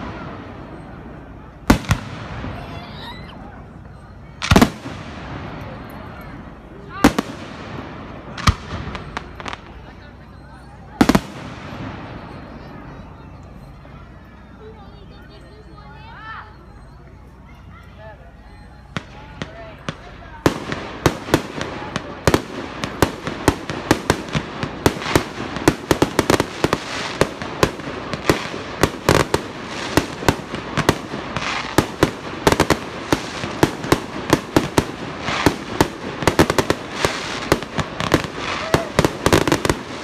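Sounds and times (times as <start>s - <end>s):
fireworks bangs: 0.0s - 13.8s, 18.9s - 40.0s.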